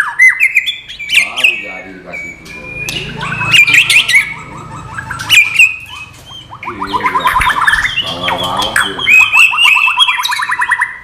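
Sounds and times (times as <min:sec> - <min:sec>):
songbird whistling and trilling: 0:00.0 - 0:11.0.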